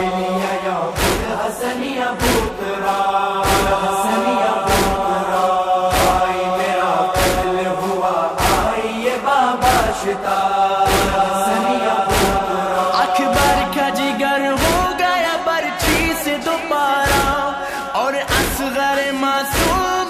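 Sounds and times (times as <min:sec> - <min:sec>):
person reciting: 0:00.0 - 0:20.0
rhythmic chest-beating: 0:00.0 - 0:20.0.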